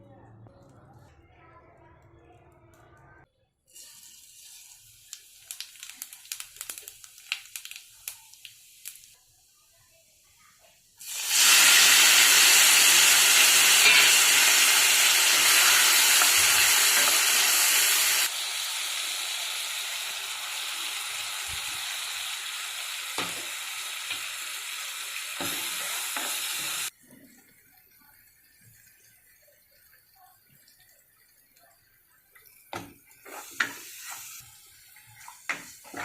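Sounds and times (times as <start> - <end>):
food sizzling in oil: 3.7 - 10.2, 11.0 - 27.0, 28.1 - 36.0.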